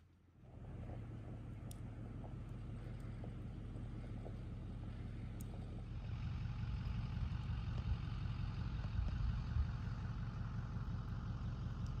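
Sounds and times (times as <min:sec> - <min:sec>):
engine idling: 0:00.2 - 0:12.0.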